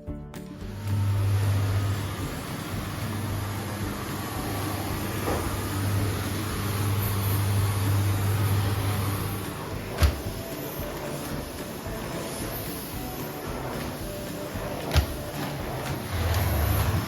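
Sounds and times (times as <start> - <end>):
vacuum cleaner running: 0.5 - 17.0.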